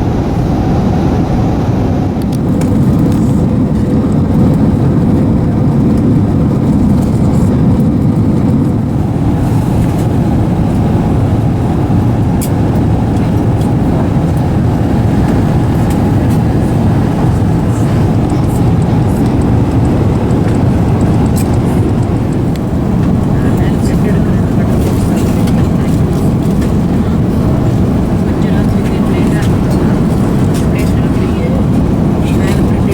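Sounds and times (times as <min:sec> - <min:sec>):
airliner cabin roar: 0:00.0 - 0:32.9.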